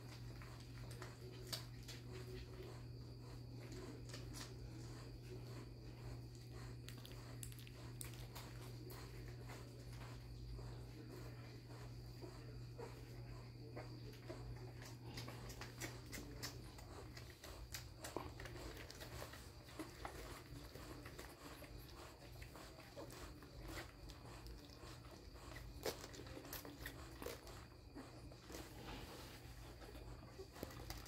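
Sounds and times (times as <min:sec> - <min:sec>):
puppies suckling clicks: 0:00.0 - 0:28.7, 0:29.4 - 0:31.0
steady low hum: 0:00.0 - 0:31.0.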